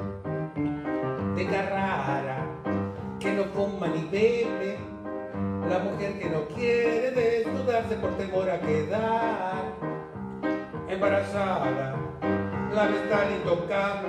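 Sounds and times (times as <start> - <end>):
piano: 0.0 - 14.0
man singing: 1.4 - 10.1, 10.8 - 14.0.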